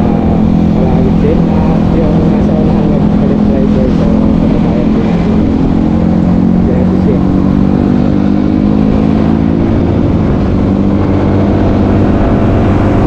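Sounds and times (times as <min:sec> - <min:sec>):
low road rumble: 0:00.0 - 0:13.0
vehicle engine running: 0:00.0 - 0:13.0.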